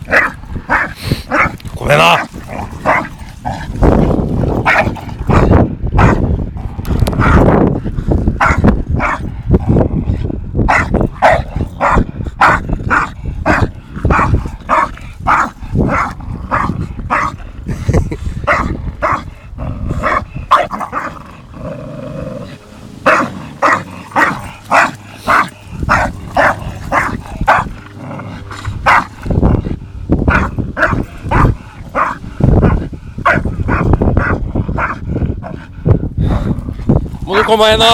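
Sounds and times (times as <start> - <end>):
dogs growling and barking: 0.0 - 37.9.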